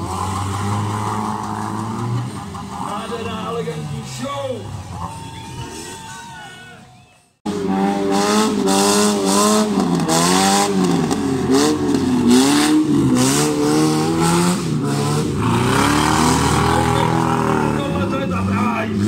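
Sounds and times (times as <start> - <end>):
car engines revving: 0.0 - 6.8, 7.4 - 19.0.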